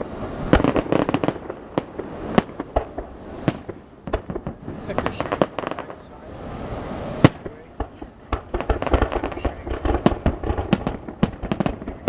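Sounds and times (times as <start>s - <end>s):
firework bang: 0.0s - 6.0s, 7.1s - 12.0s
firework crackling pops: 0.0s - 6.1s, 7.2s - 12.0s
firework rushing hiss: 0.0s - 12.0s.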